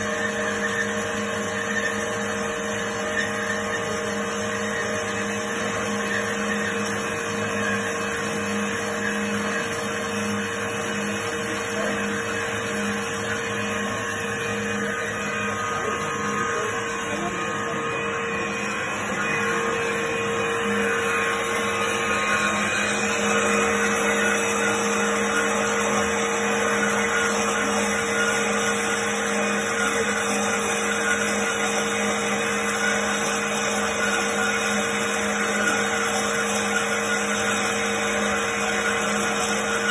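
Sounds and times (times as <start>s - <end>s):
band saw motor hum: 0.0s - 39.9s.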